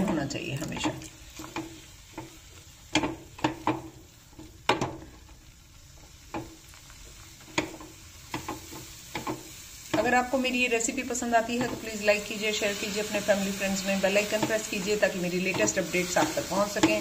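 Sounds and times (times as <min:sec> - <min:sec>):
faint sizzle: 0:00.0 - 0:17.0.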